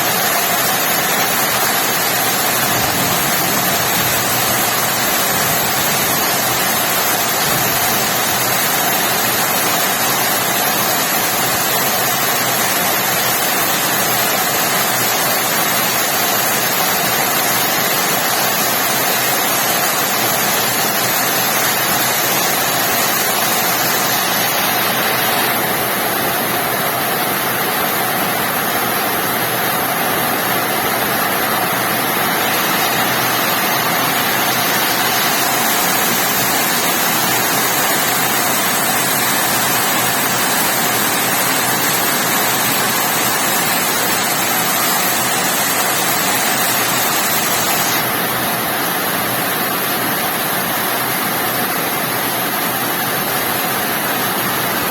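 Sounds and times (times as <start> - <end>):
rain falling: 0.0 - 28.4, 29.0 - 48.4.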